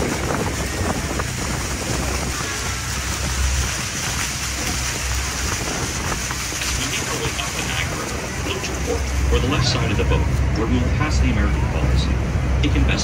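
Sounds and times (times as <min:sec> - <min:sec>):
churning water: 0:00.0 - 0:13.0
low engine rumble: 0:00.0 - 0:13.0
wind: 0:00.0 - 0:13.0.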